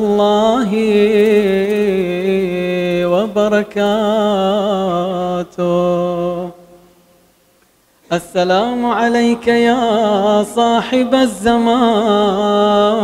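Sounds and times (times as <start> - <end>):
man chanting a prayer: 0.0 - 6.6, 8.1 - 13.0.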